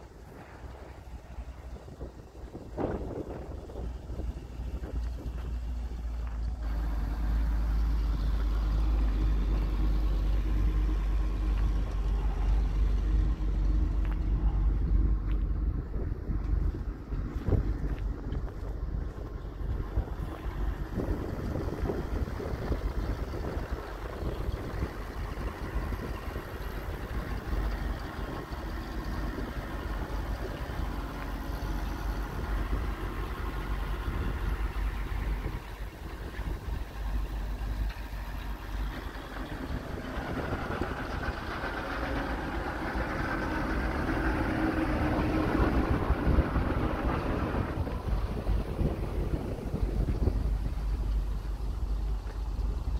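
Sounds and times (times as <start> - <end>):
truck engine idling: 0.0 - 52.9.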